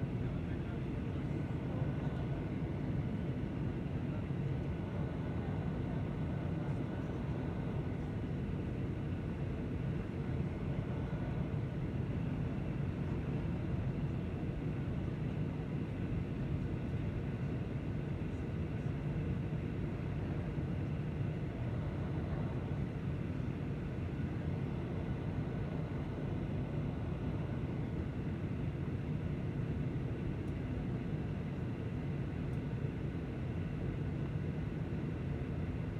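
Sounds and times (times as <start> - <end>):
airliner cabin drone: 0.0 - 35.9.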